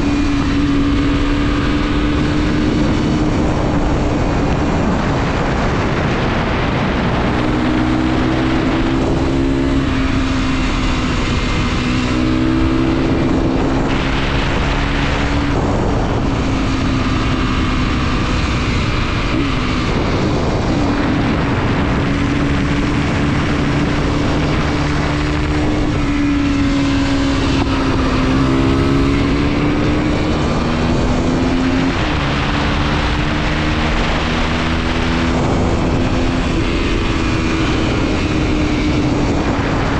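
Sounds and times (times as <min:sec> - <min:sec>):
motorcycle engine under load: 0:00.0 - 0:39.9
wind and road noise: 0:00.0 - 0:39.9.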